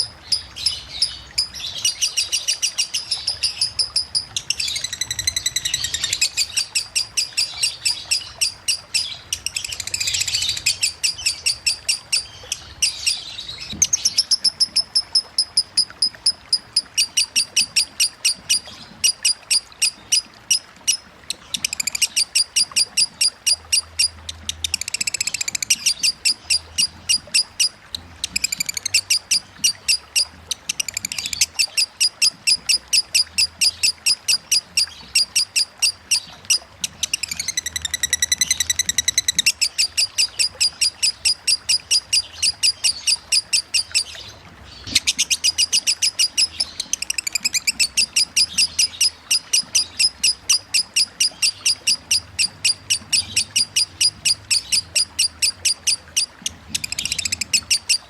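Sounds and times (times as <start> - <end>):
bird chattering: 0.0 - 44.2, 44.8 - 58.0
bird chirping rapidly: 0.0 - 58.0.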